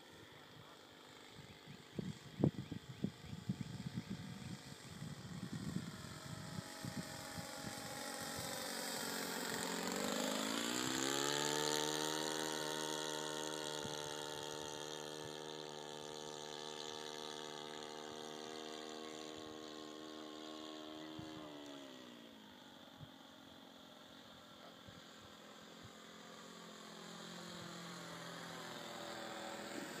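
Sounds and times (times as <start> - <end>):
model airplane engine buzzing: 0.0 - 30.0.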